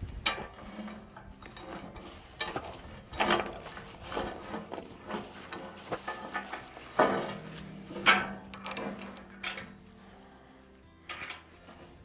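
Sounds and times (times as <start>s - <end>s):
metal hardware clinking: 0.2s - 9.9s, 11.1s - 12.0s.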